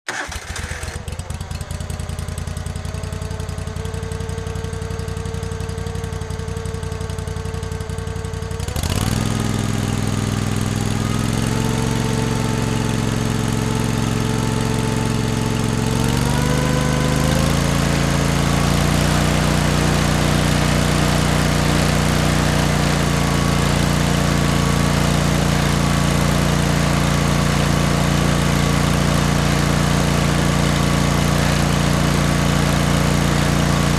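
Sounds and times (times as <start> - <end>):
lawn mower engine running: 0.1 - 33.9.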